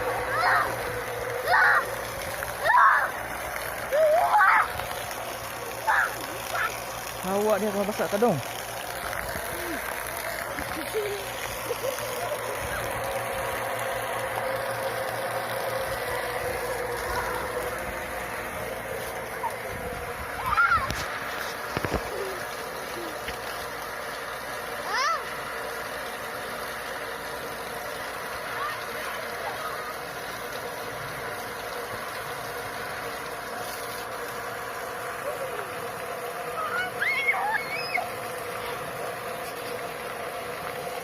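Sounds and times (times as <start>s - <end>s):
water pump running: 0.0s - 41.0s.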